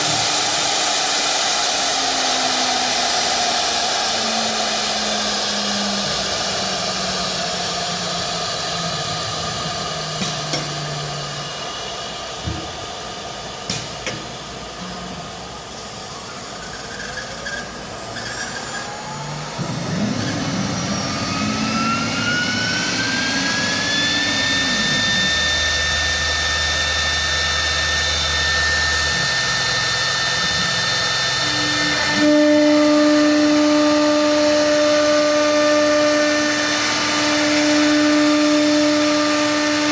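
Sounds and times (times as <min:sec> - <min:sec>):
hissing router spindle: 0:00.0 - 0:39.9
loud steady tone: 0:00.0 - 0:39.9
rising whine: 0:00.0 - 0:39.9
stepper motors humming: 0:00.0 - 0:39.9.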